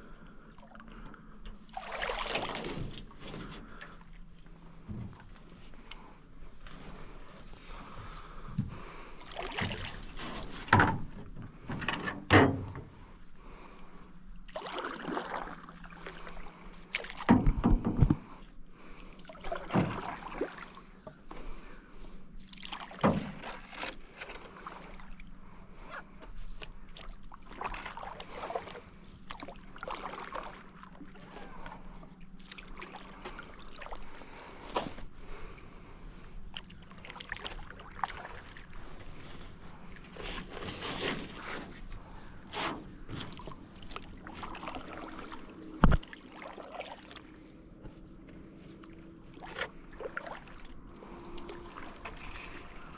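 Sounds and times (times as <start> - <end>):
low steady hum: 0.0 - 52.9
paddle strokes swishing water: 1.6 - 10.8, 14.4 - 17.3, 18.1 - 52.9.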